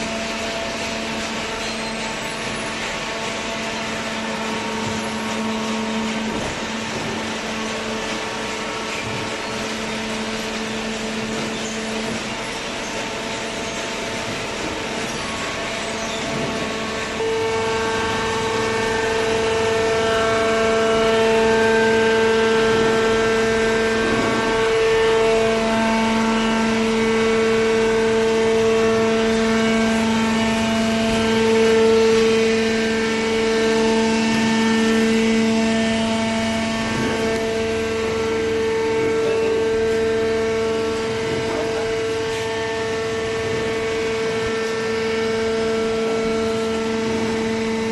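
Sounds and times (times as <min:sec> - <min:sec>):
baler machine whine and hum: 0:00.0 - 0:47.9.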